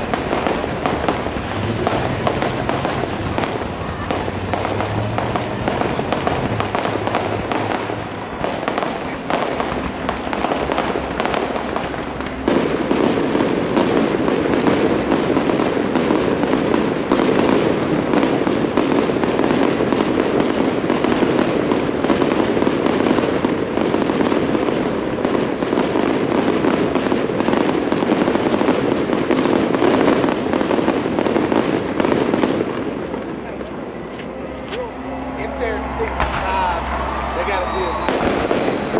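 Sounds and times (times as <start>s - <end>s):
fireworks bursts and bangs: 0.0s - 38.9s
fireworks crackling: 0.0s - 38.9s.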